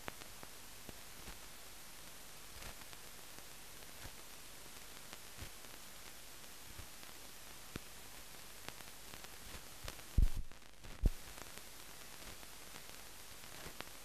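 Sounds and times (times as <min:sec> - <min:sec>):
film soundtrack hiss: 0:00.0 - 0:14.0.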